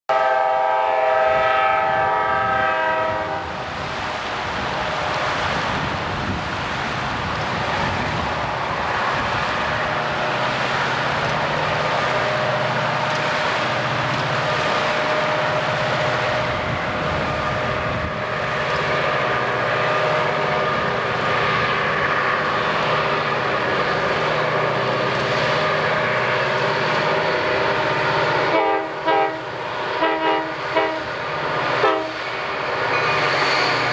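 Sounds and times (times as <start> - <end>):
diesel locomotives rumbling: 0.1 - 33.9
steel wheels rolling on rail: 0.2 - 33.9.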